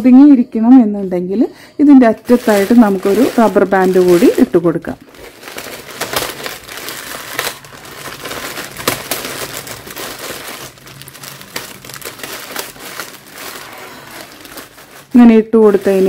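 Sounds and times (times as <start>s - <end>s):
plastic bags crinkling: 1.9s - 16.0s.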